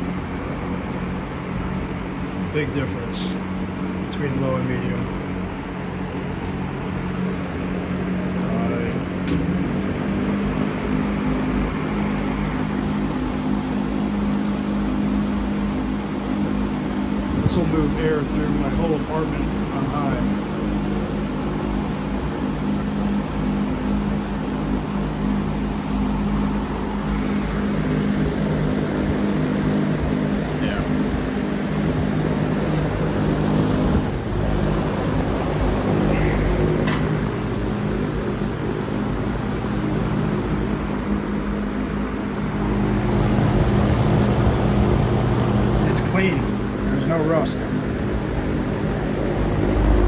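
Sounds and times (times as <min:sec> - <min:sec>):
fan blades rushing air: 0:00.0 - 0:50.0
low motor hum: 0:00.0 - 0:50.0.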